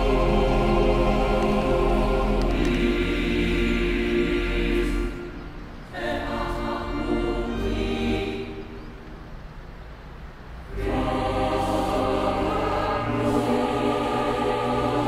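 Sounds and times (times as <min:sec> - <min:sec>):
choir singing held chords: 0:00.0 - 0:09.4, 0:10.6 - 0:15.0.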